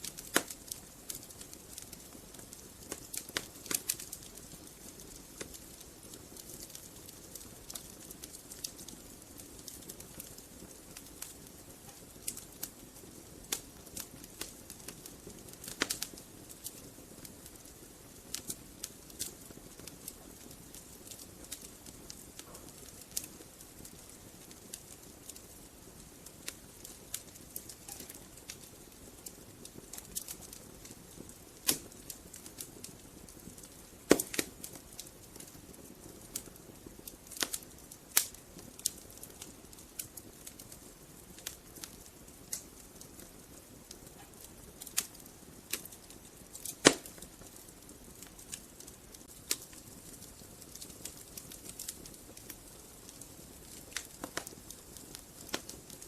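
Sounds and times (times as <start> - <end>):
fire hissing: 0.0 - 56.0
wood fire crackling: 0.0 - 56.0.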